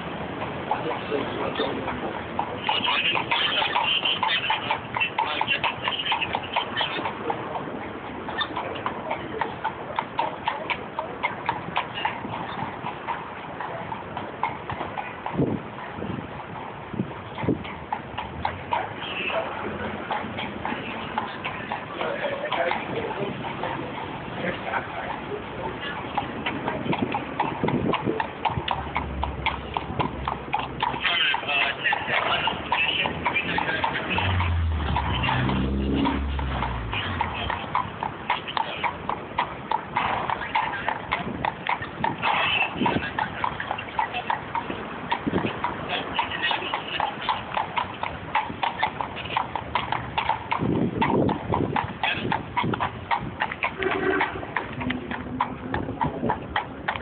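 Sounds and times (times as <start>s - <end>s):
horse hooves clip-clopping on pavement: 0.0s - 57.0s.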